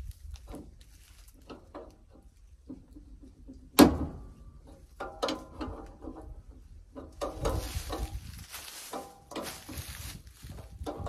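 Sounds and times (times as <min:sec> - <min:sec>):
metal tools clanking on steel frame: 0:00.3 - 0:11.0.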